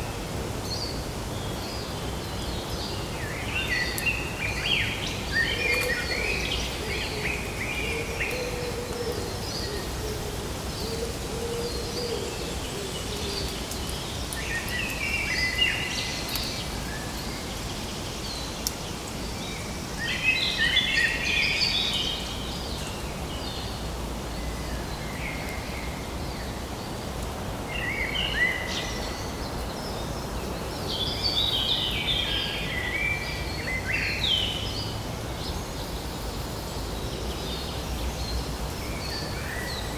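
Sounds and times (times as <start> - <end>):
songbirds chirping: 0.0 - 39.9
steady outdoor hiss: 0.0 - 39.9.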